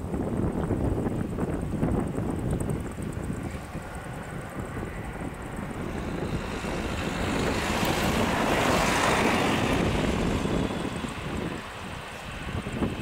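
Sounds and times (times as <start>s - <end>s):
jet engines rushing: 0.0s - 13.0s
wind buffeting microphone: 0.0s - 13.0s.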